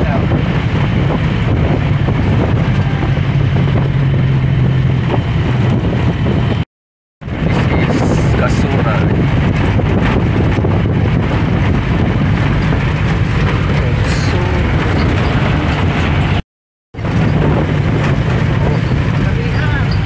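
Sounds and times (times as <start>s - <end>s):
vehicle engine running: 0.0s - 6.6s, 7.2s - 16.4s, 17.0s - 20.0s
road and wind noise: 0.0s - 16.4s, 17.0s - 20.0s.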